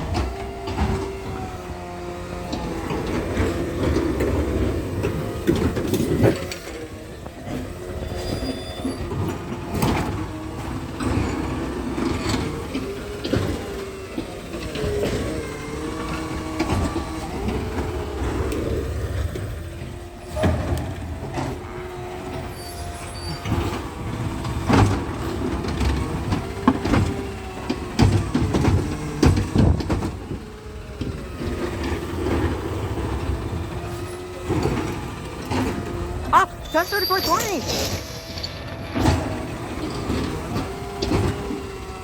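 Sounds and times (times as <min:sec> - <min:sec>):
garbage truck engine whining: 0:00.0 - 0:42.0.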